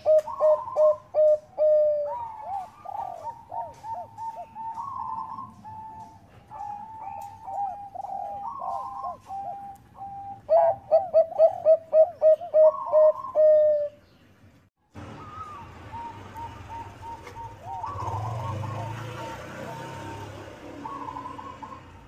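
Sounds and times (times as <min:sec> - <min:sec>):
dove cooing: 0:00.0 - 0:14.0, 0:15.1 - 0:22.0.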